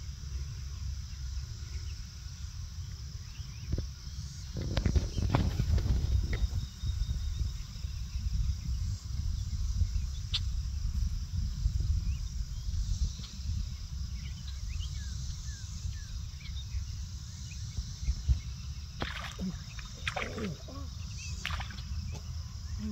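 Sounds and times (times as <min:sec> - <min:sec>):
insects droning: 0:00.0 - 0:22.9
low uneven rumble: 0:02.8 - 0:22.9.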